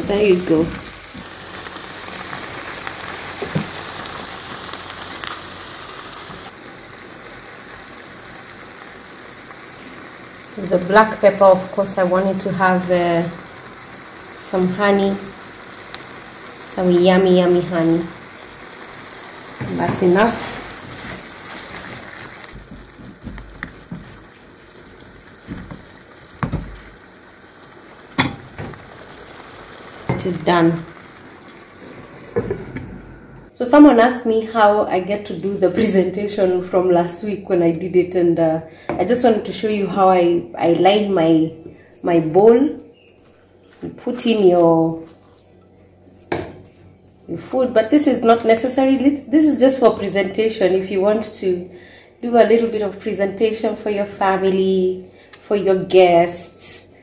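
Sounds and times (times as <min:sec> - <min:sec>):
stew sizzling in a frying pan: 0:00.0 - 0:57.0.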